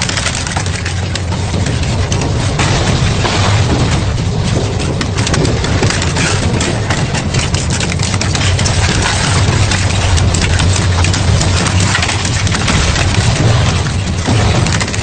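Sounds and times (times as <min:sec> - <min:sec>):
material cracking and snapping: 0:00.0 - 0:15.0.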